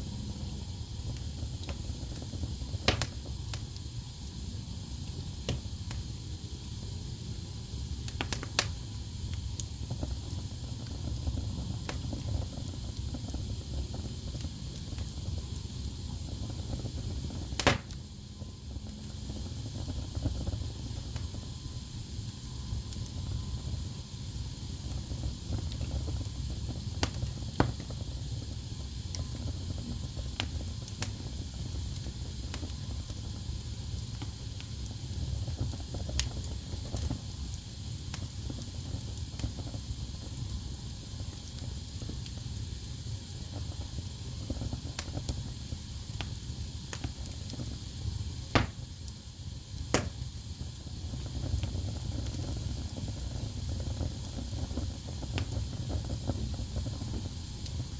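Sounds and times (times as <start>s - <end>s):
fire crackling: 0.0s - 57.9s
fire rumble and hiss: 0.0s - 57.9s
sharp pops of fire: 0.2s - 57.9s.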